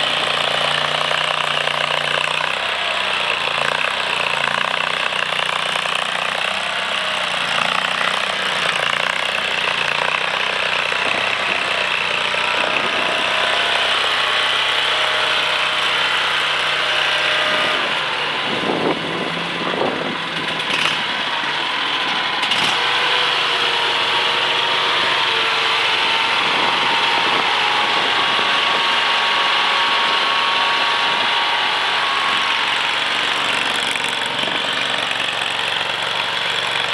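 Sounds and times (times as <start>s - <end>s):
skid steer engine running: 0.0s - 36.9s.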